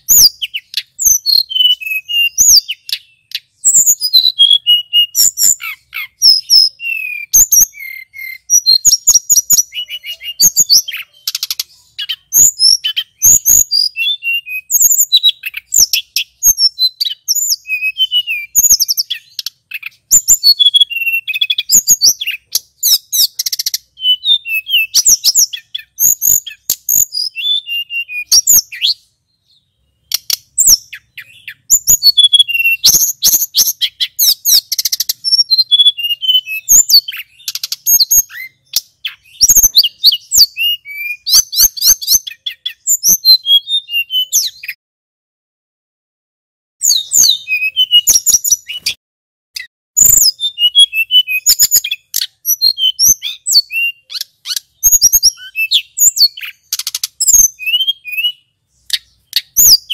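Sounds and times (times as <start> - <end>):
flycatcher singing: 0.0 - 44.8, 46.8 - 49.0, 49.6 - 59.9.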